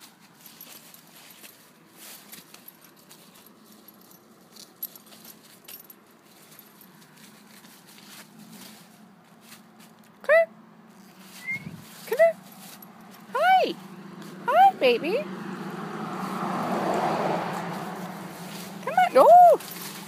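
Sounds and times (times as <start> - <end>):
paws crunching through dry leaves: 0.0 - 10.0, 11.0 - 14.4, 15.7 - 20.0
collar tags jingling: 0.0 - 10.2, 10.9 - 20.0.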